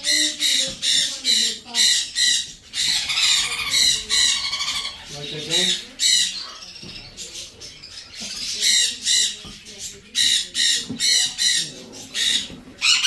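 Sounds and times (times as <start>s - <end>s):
baby macaws squawking: 0.0s - 13.0s.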